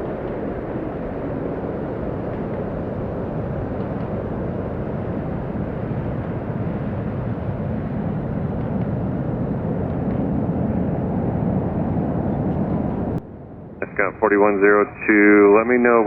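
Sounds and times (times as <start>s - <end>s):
turboprop engines rumbling: 0.0s - 16.0s.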